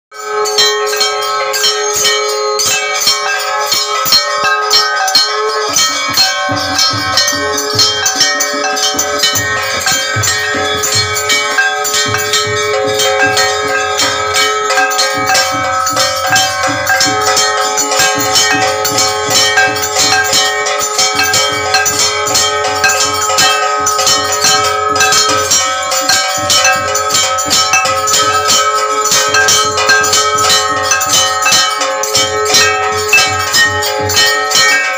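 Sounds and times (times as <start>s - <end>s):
temple bells ringing: 0.1s - 34.9s.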